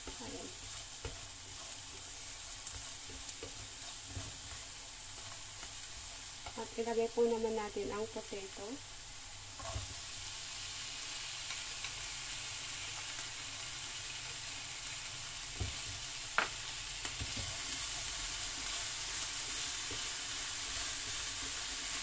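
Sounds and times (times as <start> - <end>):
vegetables sizzling in frying pan: 0.0 - 22.0.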